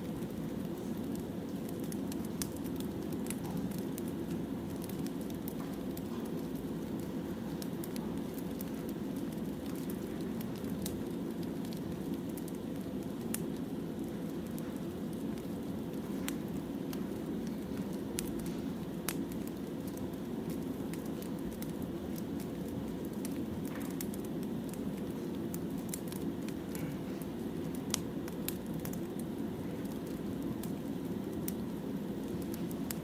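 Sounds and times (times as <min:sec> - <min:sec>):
firewood crackling and popping: 0:00.0 - 0:33.0.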